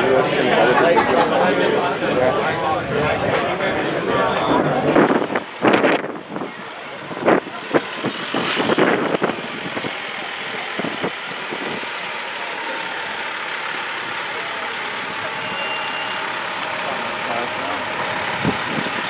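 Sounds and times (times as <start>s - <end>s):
nearby voices: 0.0s - 5.4s, 6.2s - 19.0s
fire engine running: 0.0s - 19.0s.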